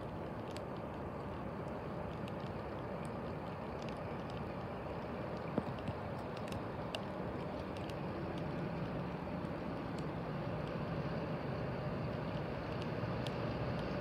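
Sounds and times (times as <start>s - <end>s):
faint ticks: 0.0s - 11.2s, 12.0s - 14.0s
distant train engine droning: 0.0s - 14.0s.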